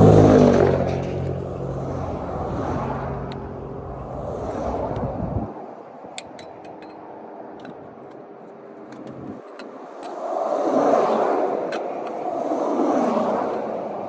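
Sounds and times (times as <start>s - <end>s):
highway traffic passing: 0.0s - 14.0s.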